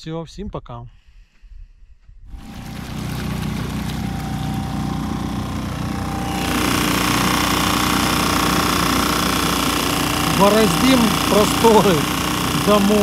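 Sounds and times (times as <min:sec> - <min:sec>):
outboard motor running: 0:02.3 - 0:13.0.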